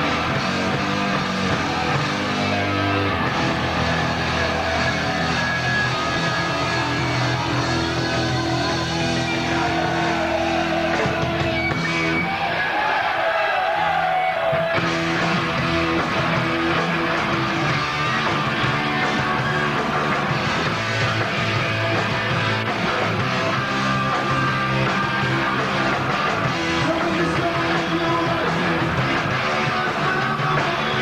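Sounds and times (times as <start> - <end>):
heavy metal band playing live: 0.0 - 31.0.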